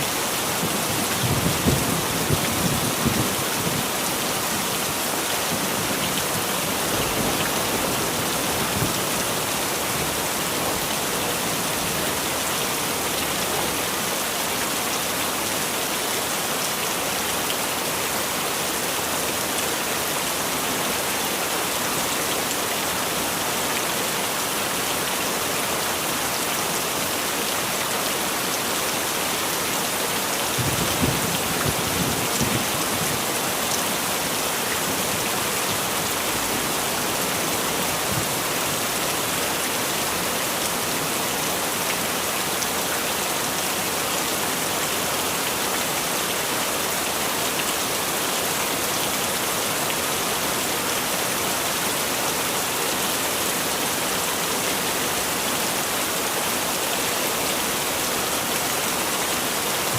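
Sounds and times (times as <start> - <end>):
heavy rain hissing: 0.0 - 15.5, 20.4 - 59.9.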